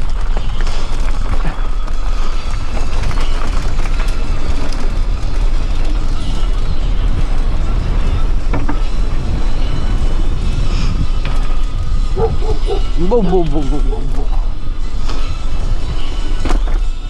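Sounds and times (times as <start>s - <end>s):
mountain bike rattling over rocks: 0.0s - 17.0s
wind on microphone: 0.0s - 17.0s.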